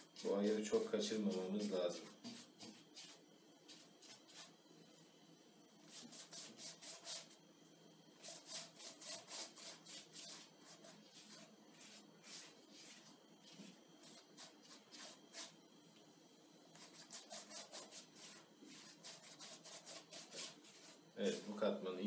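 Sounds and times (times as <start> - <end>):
pastry brush strokes on dough: 0.0 - 4.6, 5.9 - 7.4, 8.2 - 15.6, 16.7 - 21.8.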